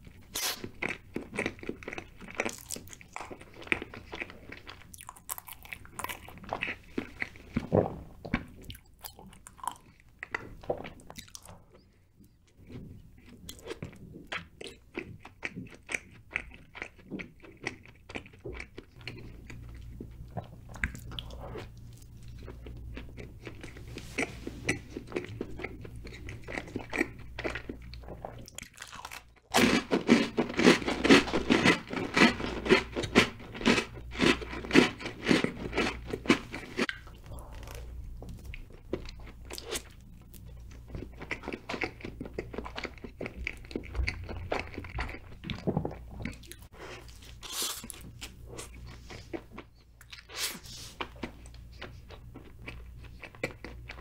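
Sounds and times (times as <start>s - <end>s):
man chewing cake: 0.0s - 54.0s.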